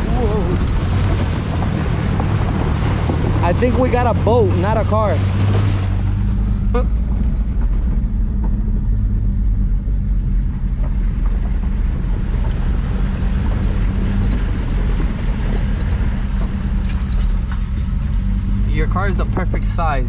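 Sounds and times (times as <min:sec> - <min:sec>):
water splashing against truck: 0:00.0 - 0:08.3, 0:10.5 - 0:20.0
truck engine running at low revs: 0:00.0 - 0:20.0.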